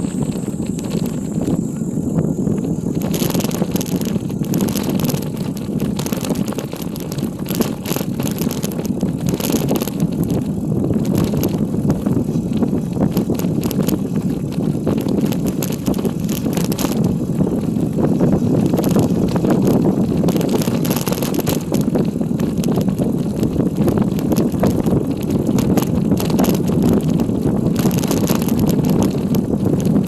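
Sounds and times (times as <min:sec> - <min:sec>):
bicycle tyres rumbling: 0:00.0 - 0:30.0
bike rattling and clicking: 0:00.0 - 0:30.0
wind on microphone: 0:00.0 - 0:30.0.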